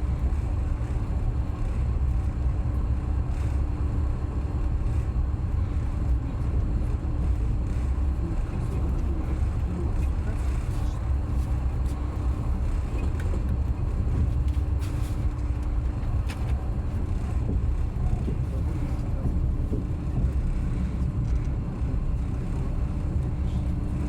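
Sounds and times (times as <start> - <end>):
constant hum: 0.0 - 24.0
train wheels rumbling on rails: 0.0 - 24.0.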